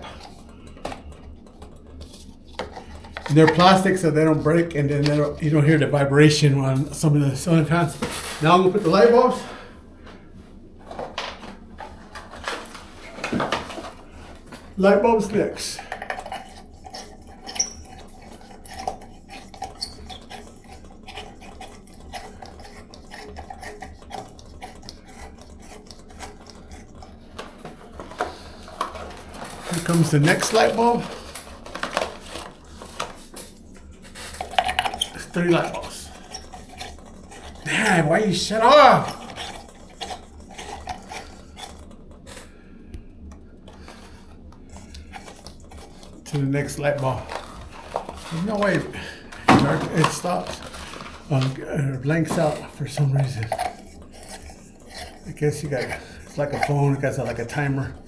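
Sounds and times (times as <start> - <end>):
small parts clicking and rubbing: 0.0 - 5.5, 11.8 - 42.6, 43.3 - 57.5
low steady hum: 0.0 - 58.0.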